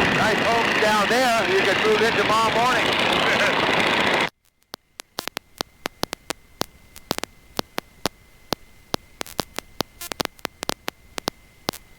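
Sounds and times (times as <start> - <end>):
electrical static crackling: 0.0 - 11.9
faint high whine: 0.0 - 11.9.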